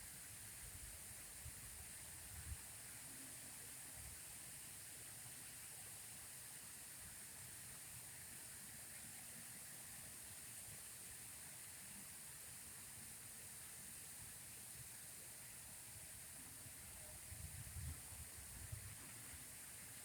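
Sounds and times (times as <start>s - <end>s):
faint running water hiss: 0.0s - 20.0s.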